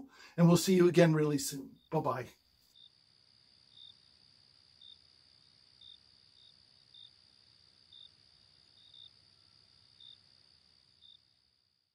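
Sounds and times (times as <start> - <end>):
cricket chirping: 1.7 - 11.9.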